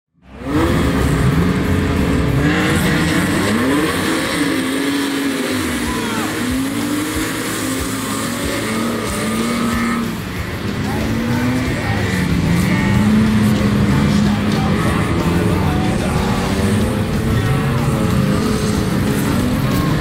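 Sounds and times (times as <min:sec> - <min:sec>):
race car engines revving: 0:00.1 - 0:20.0.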